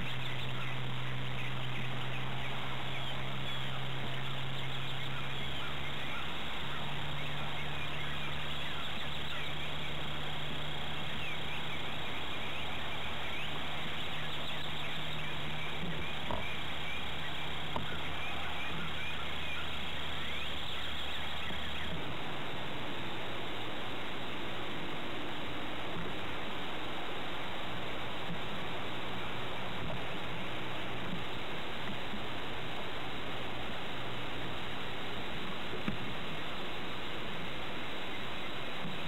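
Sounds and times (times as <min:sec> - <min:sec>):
low hum: 0:00.0 - 0:39.0
steady hiss: 0:00.0 - 0:39.0.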